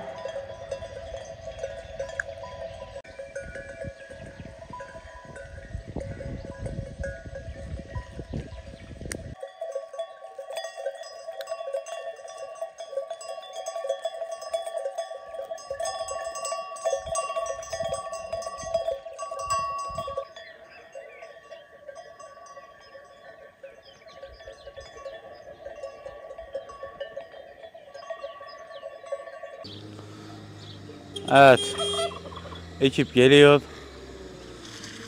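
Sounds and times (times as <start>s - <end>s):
livestock bells clanking: 0.0s - 35.0s.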